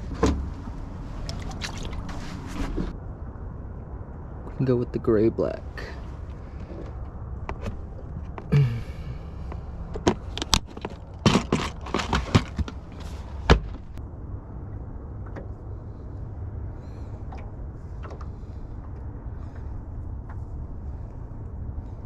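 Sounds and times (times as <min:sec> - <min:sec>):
low rumble: 0:00.0 - 0:11.9, 0:12.7 - 0:22.0.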